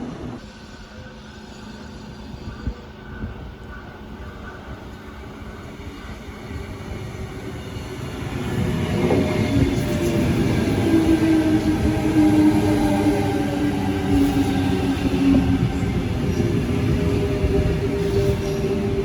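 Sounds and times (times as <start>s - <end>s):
train rumble: 0.0s - 19.0s
train whine: 0.0s - 19.0s.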